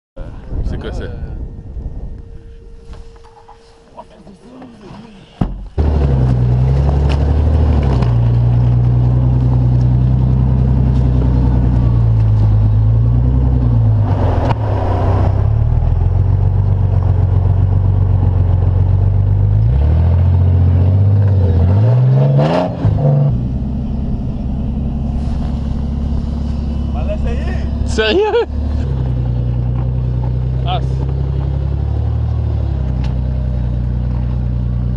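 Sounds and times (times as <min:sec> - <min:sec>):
engine revving under load: 0:05.8 - 0:34.9.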